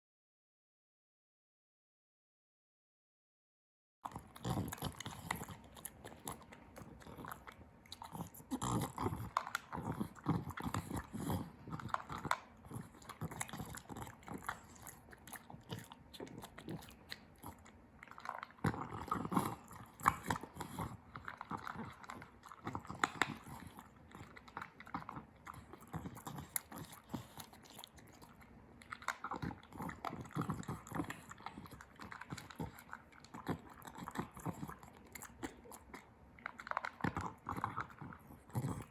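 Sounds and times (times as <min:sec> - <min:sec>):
puppy chewing and crunching: 0:04.0 - 0:38.9.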